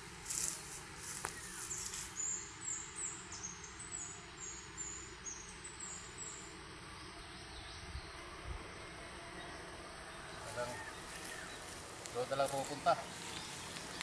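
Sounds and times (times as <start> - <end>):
small bird calling: 0.2 - 14.0.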